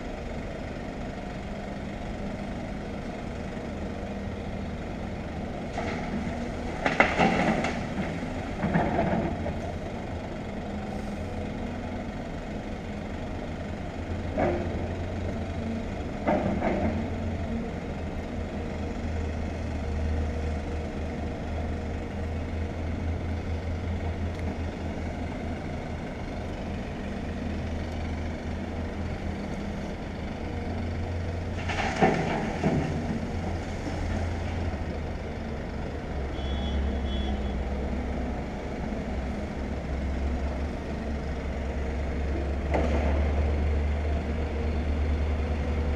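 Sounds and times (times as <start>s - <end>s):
excavator diesel engine rumbling: 0.0s - 45.9s.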